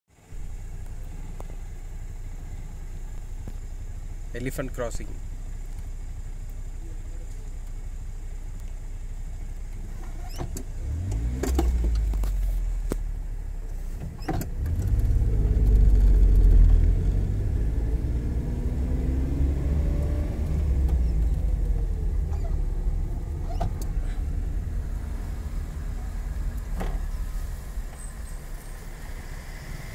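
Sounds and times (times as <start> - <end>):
car engine and tyre rumble: 0.1 - 29.9.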